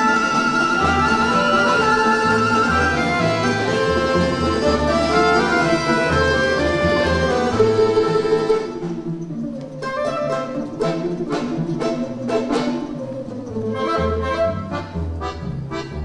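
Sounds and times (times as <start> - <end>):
folk instrument orchestra playing: 0.0 - 16.0.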